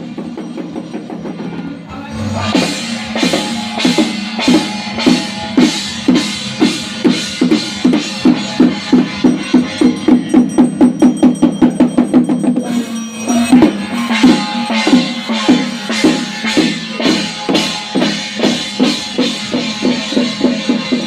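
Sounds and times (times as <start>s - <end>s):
drum beaten in rhythm: 0.0s - 21.0s.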